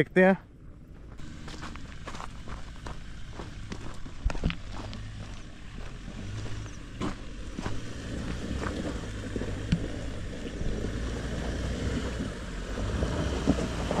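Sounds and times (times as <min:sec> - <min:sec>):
suv engine at low revs: 0:00.0 - 0:14.0.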